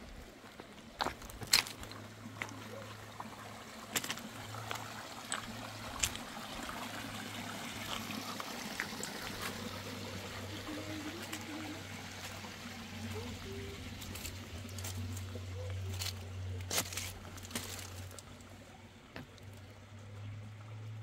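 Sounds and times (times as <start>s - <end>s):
water trickling: 0.1s - 21.0s.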